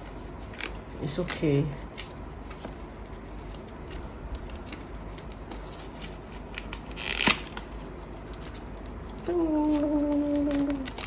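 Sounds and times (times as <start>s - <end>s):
packaging rustling: 0.2s - 11.0s.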